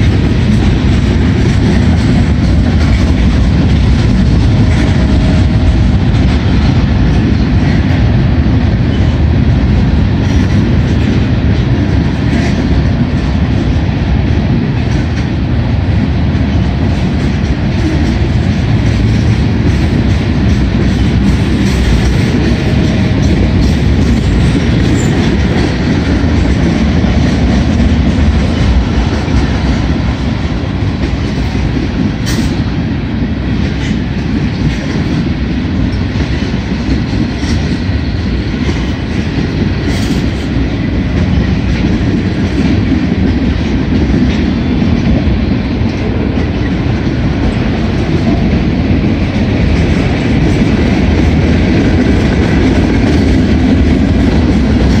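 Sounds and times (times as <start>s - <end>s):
train cars clanking: 0.0s - 55.0s
train wheels rumbling on rail: 0.0s - 55.0s.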